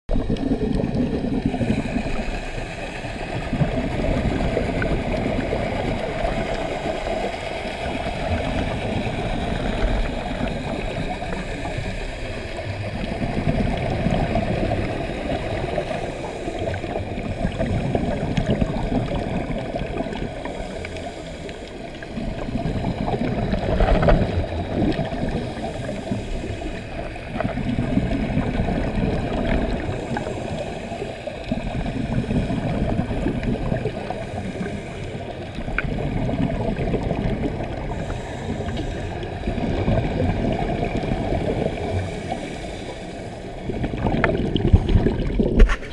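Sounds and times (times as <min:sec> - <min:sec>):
regulator bubbles gurgling: 0:00.1 - 0:45.9
rushing water noise: 0:00.1 - 0:45.9.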